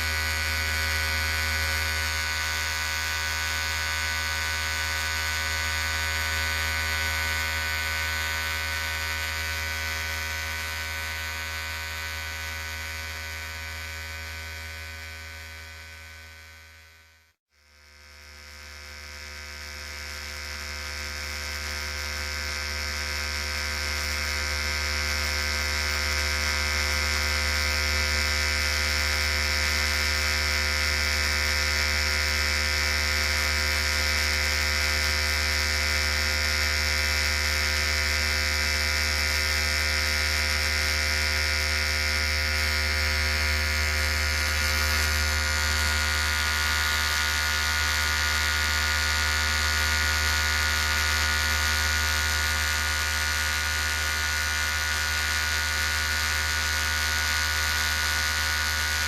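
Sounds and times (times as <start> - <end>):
electric hair clippers buzzing: 0.0 - 59.0.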